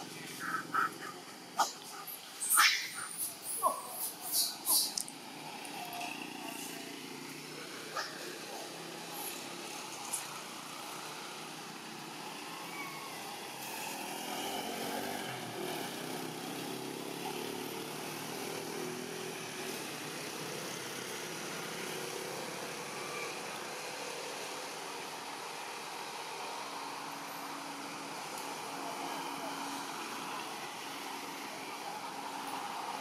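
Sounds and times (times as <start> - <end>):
distant engine hum: 0.0 - 33.0
outdoor ambience: 0.0 - 33.0.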